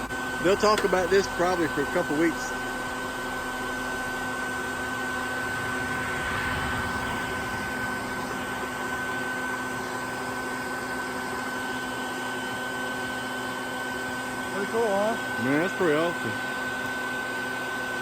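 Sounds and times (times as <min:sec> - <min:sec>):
vacuum motor whining: 0:00.0 - 0:18.0.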